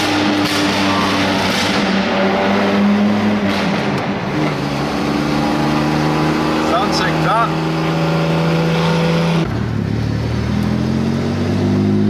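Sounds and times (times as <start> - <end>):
car engine cruising: 0.0 - 12.0
road noise: 0.0 - 12.0.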